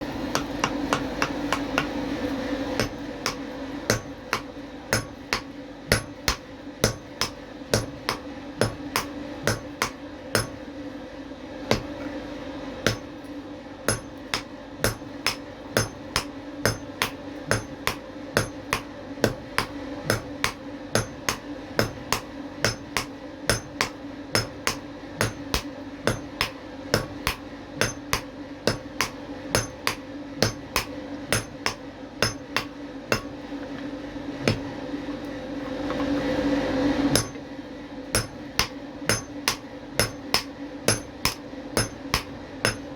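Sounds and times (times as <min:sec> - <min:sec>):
hammer striking copper: 0:00.3 - 0:02.0, 0:02.8 - 0:10.6, 0:11.7 - 0:12.0, 0:12.8 - 0:13.1, 0:13.9 - 0:33.4, 0:34.4 - 0:34.7, 0:37.1 - 0:37.4, 0:38.1 - 0:42.9.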